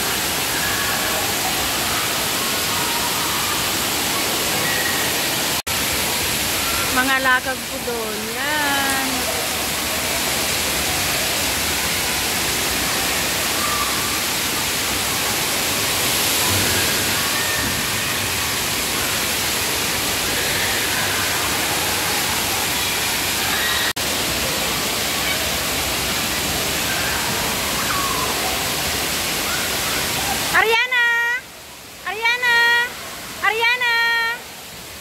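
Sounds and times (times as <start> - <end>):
water rushing from spray jets: 0.0 - 35.0.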